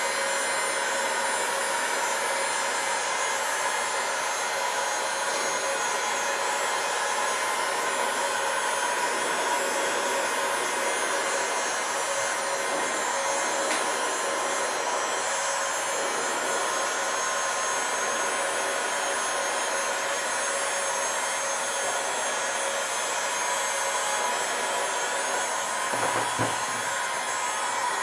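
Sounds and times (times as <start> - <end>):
heat gun blowing with whine: 0.0 - 28.0.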